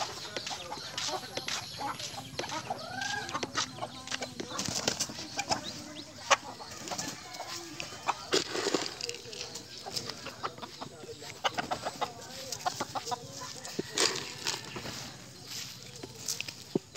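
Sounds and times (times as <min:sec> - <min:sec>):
chickens clucking: 0:00.0 - 0:16.9.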